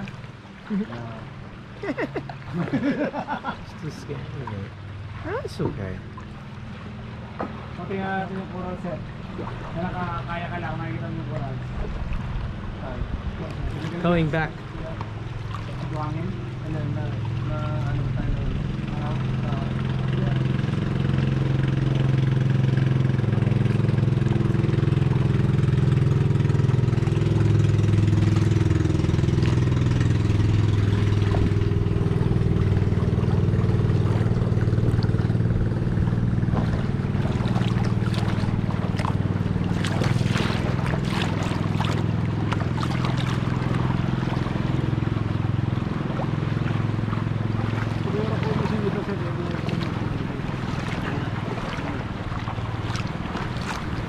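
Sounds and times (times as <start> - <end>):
boat engine running: 0.0 - 54.0
water splashing: 0.0 - 54.0.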